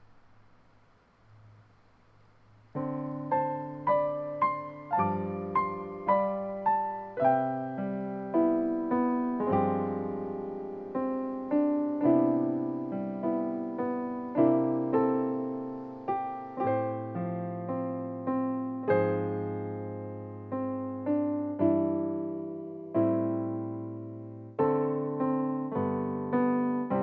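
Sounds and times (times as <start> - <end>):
solo piano music: 2.7 - 27.0.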